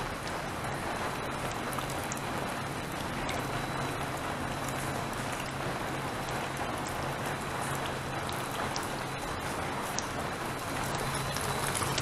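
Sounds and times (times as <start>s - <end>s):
rain pattering: 0.0s - 12.0s
raindrop ticks: 0.0s - 12.0s.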